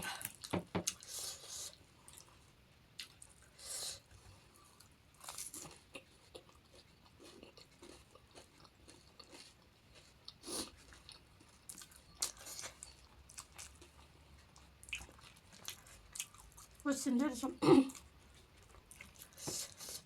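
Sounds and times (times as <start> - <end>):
crunching and chewing: 0.2 - 16.8, 17.9 - 20.0.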